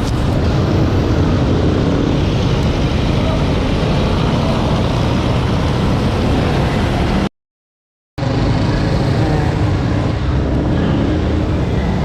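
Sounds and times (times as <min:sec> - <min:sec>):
road traffic rumble: 0:00.0 - 0:07.3, 0:08.2 - 0:12.0.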